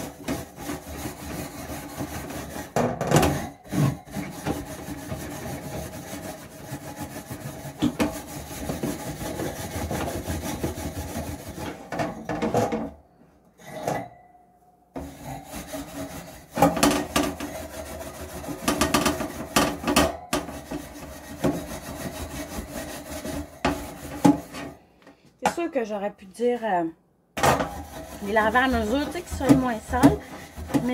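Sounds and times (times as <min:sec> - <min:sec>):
steel wool scrubbing wire rack: 0:00.0 - 0:12.4, 0:15.0 - 0:24.8, 0:27.4 - 0:30.9.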